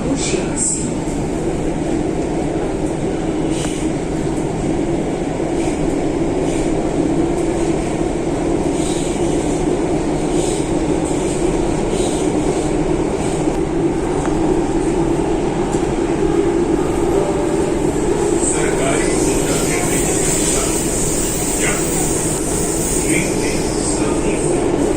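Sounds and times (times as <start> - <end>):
metro train rumble: 0.0 - 24.9.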